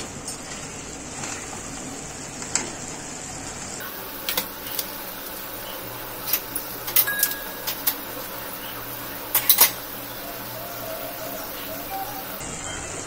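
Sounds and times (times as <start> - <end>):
gravy simmering hiss: 0.0 - 12.4.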